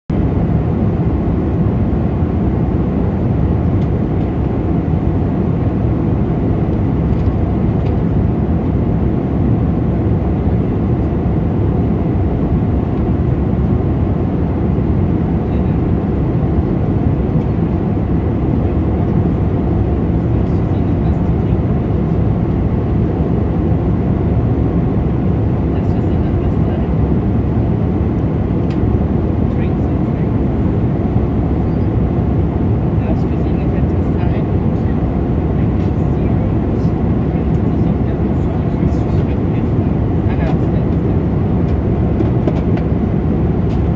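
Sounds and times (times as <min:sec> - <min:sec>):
jet engine cabin rush: 0:00.2 - 0:43.9.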